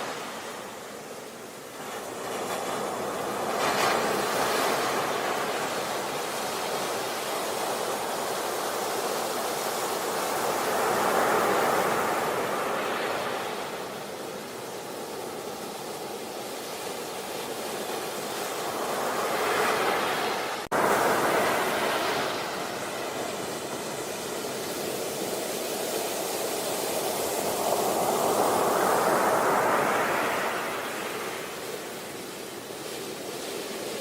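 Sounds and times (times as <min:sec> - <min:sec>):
sea waves washing onto beach: 0:00.0 - 0:34.0.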